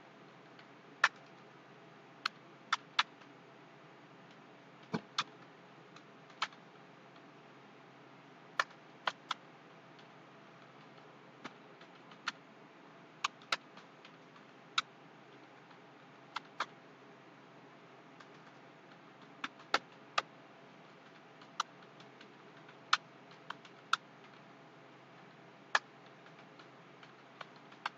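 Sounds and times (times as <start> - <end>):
faint steady hiss: 0.0 - 27.9.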